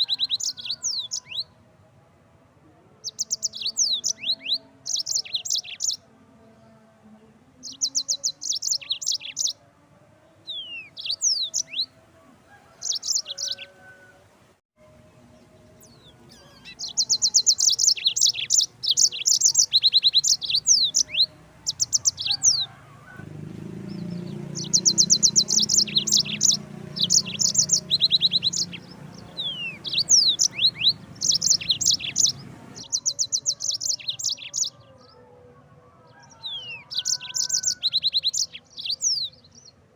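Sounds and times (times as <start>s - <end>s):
canary singing trills: 0.0s - 1.5s, 3.0s - 6.7s, 7.6s - 9.6s, 10.3s - 14.1s, 15.4s - 35.4s, 36.0s - 39.8s.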